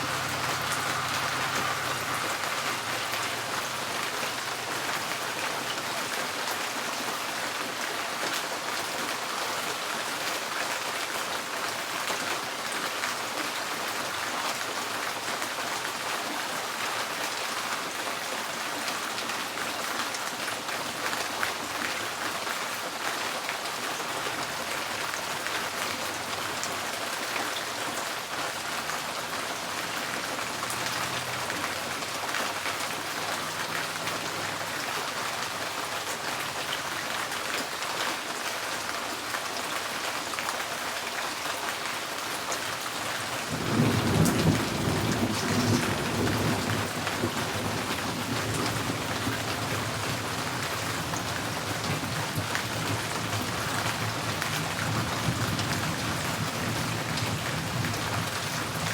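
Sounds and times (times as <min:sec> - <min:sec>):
rain drumming on a tin roof: 0:00.0 - 0:58.9.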